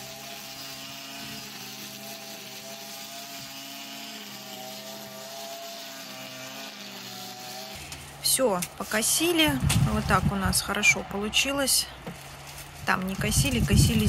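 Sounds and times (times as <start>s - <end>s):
brush cutter engine running: 0.0s - 14.0s.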